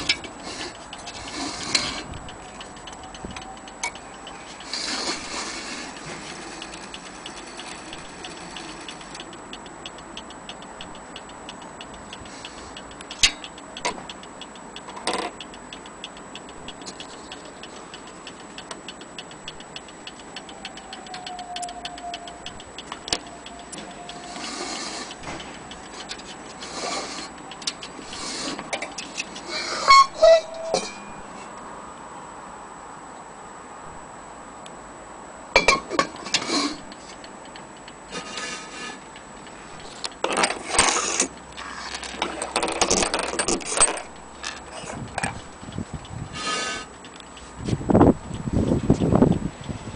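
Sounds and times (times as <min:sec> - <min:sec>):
clock ticking: 0:00.0 - 0:31.2, 0:35.6 - 0:49.9.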